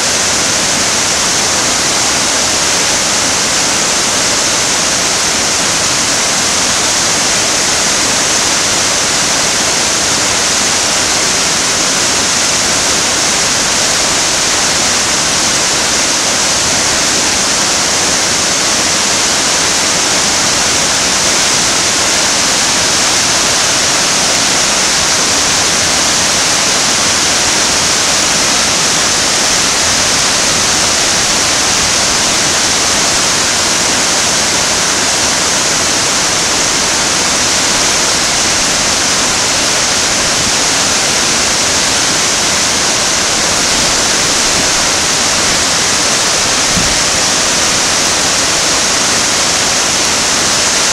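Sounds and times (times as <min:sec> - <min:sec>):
white water rushing over rocks: 0:00.0 - 0:50.9.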